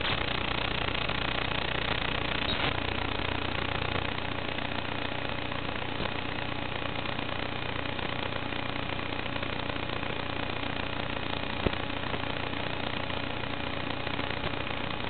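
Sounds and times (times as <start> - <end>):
heavy radio hiss: 0.0 - 15.0.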